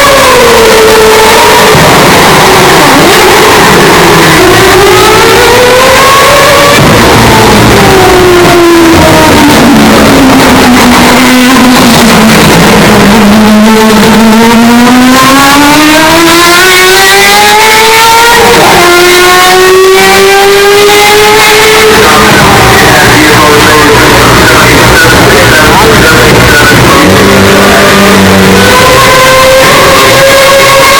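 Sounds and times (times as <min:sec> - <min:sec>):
car engine accelerating: 0:00.0 - 0:30.9.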